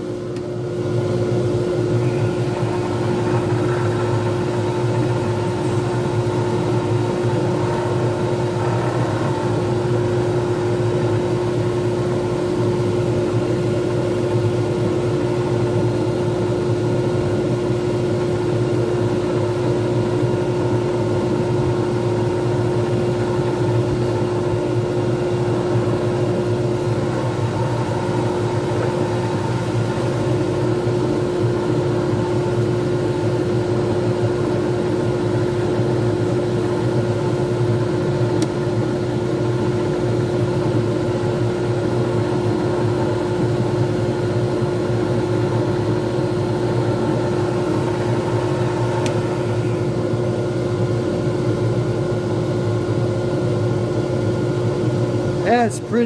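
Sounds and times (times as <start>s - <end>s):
wood lathe humming: 0.8s - 17.5s, 19.0s - 38.2s, 38.8s - 50.4s.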